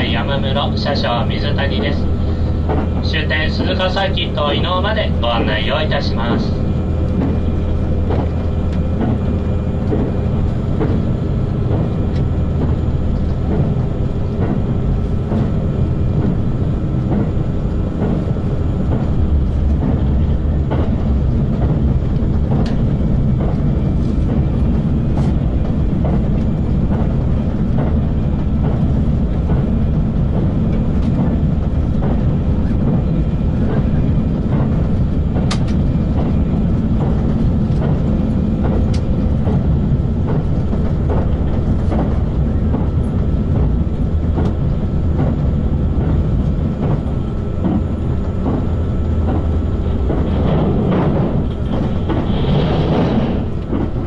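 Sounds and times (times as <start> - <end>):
rail joint clicks: 0.0 - 54.0
railcar running rumble: 0.0 - 54.0.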